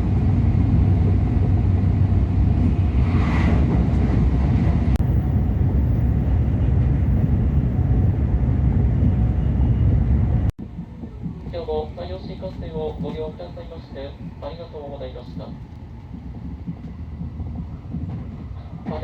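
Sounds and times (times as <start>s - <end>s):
train rumbling at speed: 0.0s - 19.0s.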